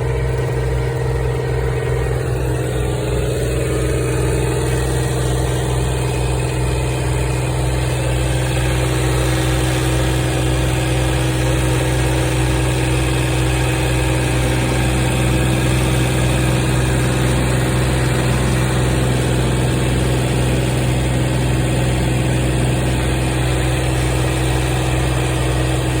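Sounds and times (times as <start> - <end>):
tractor engine humming: 0.0 - 26.0.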